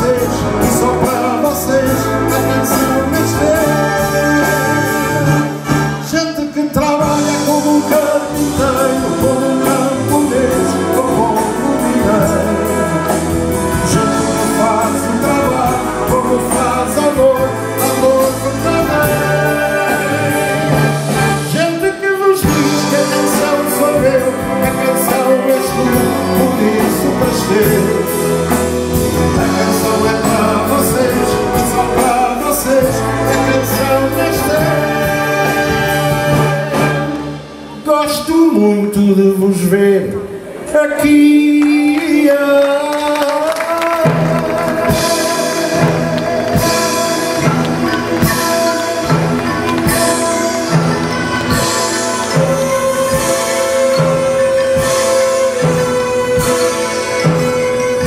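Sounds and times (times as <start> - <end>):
man singing: 0.0 - 58.0
wind band with brass playing: 0.0 - 58.0.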